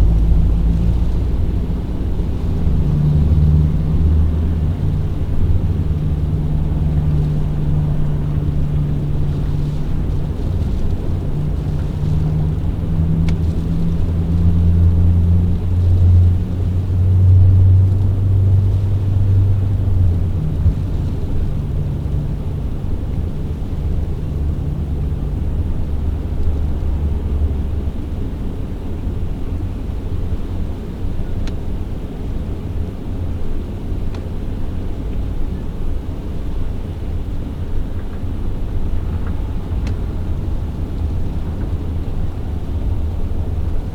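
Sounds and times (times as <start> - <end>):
vehicle engine drone: 0.0 - 43.9.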